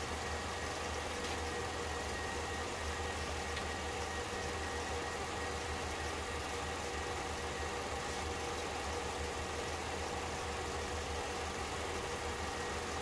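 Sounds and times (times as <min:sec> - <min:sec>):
film projector whirring: 0:00.0 - 0:13.0.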